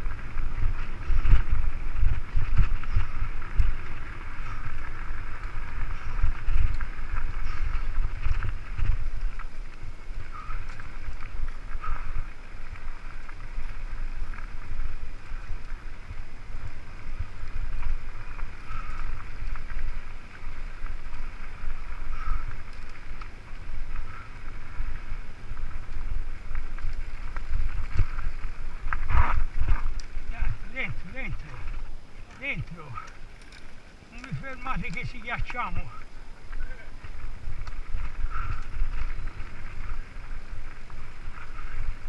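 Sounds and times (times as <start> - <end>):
mountain bike rattling on dirt: 0.0 - 42.0
wind buffeting microphone: 0.0 - 42.0.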